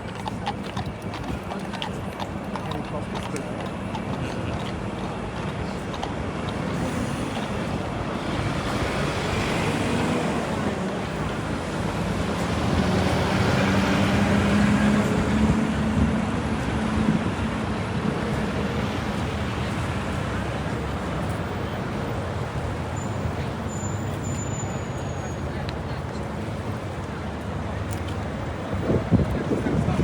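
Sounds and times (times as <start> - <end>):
passing vehicle engine rushing: 4.8 - 30.0.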